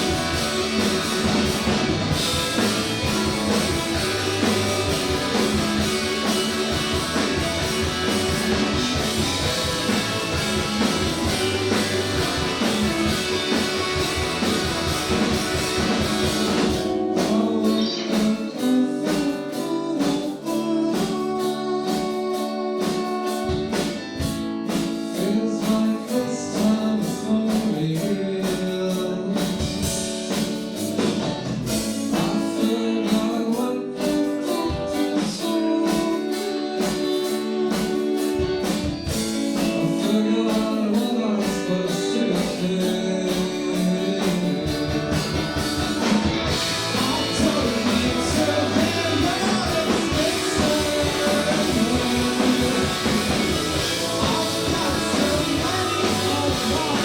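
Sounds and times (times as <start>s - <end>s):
person singing: 0.0s - 30.1s, 31.9s - 45.4s, 46.0s - 57.0s
drums: 0.0s - 57.0s
electric guitars: 0.0s - 57.0s.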